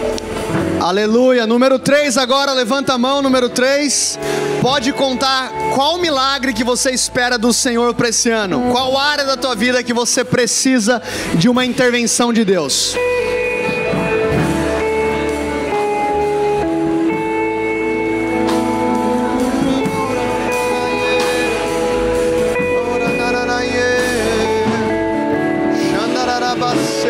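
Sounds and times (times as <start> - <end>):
guitar: 0.0 - 27.0
sustained keyboard chords: 0.0 - 27.0.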